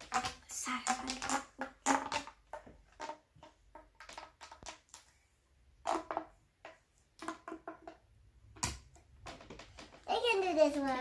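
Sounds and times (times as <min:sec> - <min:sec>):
plastic tube pop: 0:00.0 - 0:05.1, 0:05.8 - 0:10.0
plastic tubes clicking and crackling: 0:00.0 - 0:05.2, 0:05.8 - 0:11.0.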